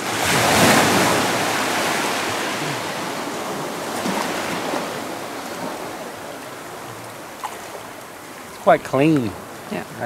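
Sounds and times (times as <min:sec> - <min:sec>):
sea wave breaking on shore: 0:00.0 - 0:08.8.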